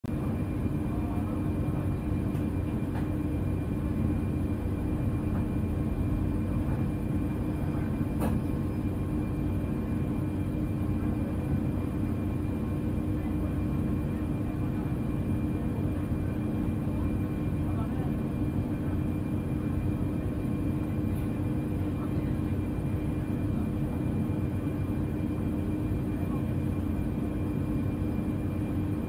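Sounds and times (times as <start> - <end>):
airplane cabin drone: 0.0 - 29.0
constant hum tone: 0.0 - 29.0.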